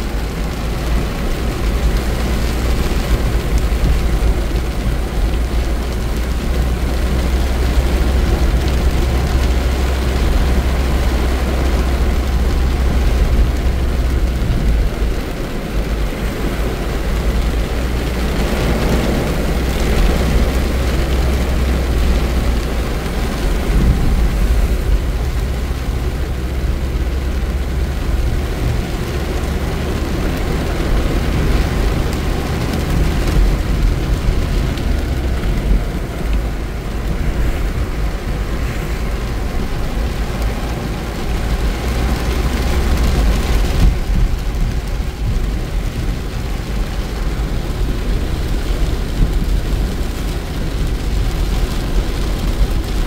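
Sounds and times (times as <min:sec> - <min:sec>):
car engine and tyres rumbling: 0:00.0 - 0:53.0
rain and spray hissing: 0:00.0 - 0:53.0.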